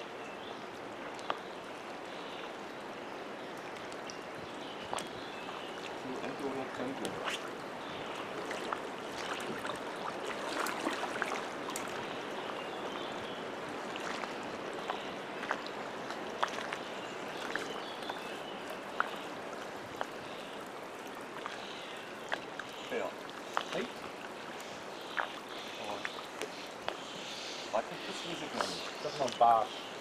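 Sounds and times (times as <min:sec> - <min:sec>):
small waves lapping: 0:00.0 - 0:30.0
water splashes and drips: 0:00.0 - 0:30.0.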